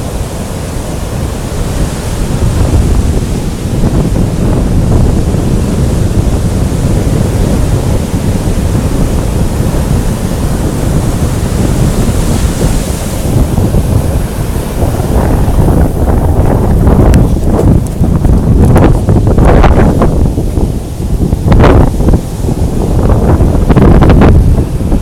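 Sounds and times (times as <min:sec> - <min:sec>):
storm surf breaking on beach: 0:00.0 - 0:25.0
wind buffeting microphone: 0:00.0 - 0:25.0.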